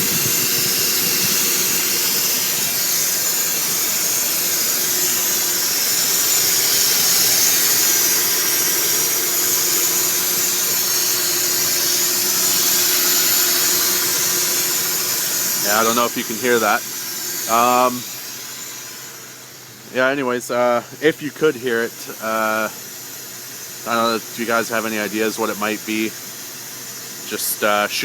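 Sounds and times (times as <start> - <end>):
car engine running: 0.0 - 23.1
whistling hissing air noise: 0.0 - 28.0.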